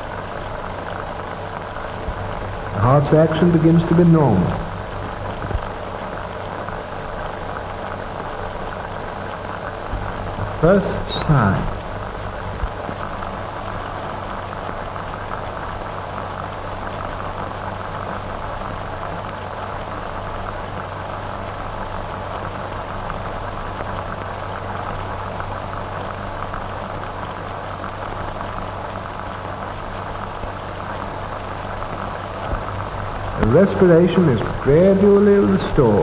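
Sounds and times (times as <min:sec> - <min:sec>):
film soundtrack hiss and crackle: 0:00.0 - 0:36.0
low even hum: 0:00.0 - 0:36.0.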